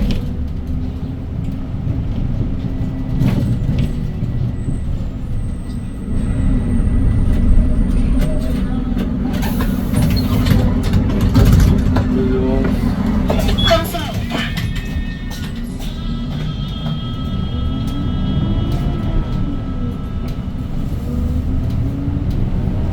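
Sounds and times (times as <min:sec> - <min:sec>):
bus engine and road rumble: 0:00.0 - 0:22.9.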